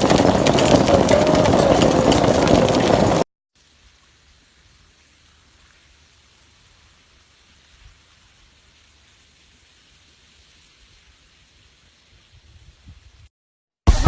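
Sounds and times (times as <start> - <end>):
faint rain hiss: 0.0 - 13.3.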